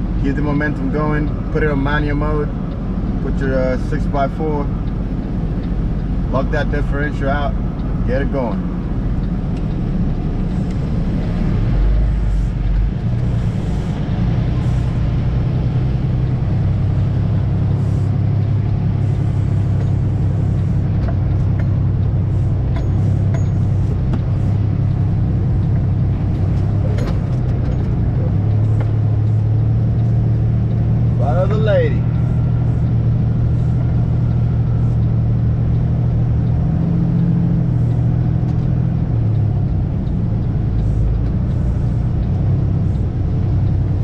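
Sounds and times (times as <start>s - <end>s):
truck diesel engine under load: 0.0s - 44.0s.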